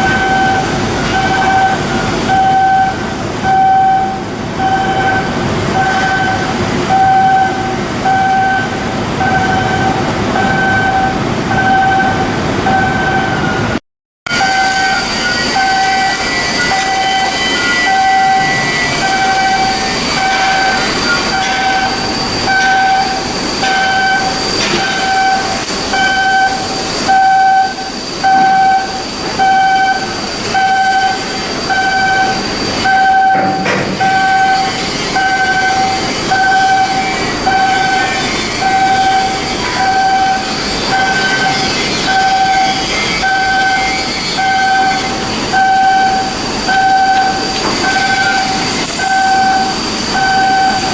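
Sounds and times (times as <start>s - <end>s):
electronic warning beeps: 0.0s - 50.9s
machinery whine and hiss: 0.0s - 50.9s.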